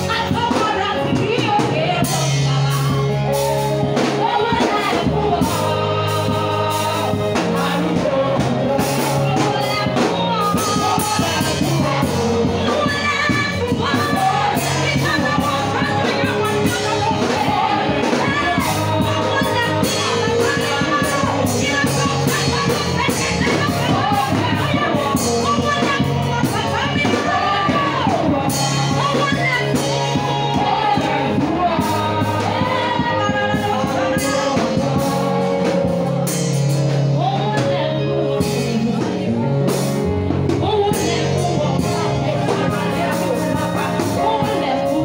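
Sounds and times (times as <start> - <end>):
amplified band accompaniment: 0.0 - 45.0
woman singing gospel: 0.0 - 45.0.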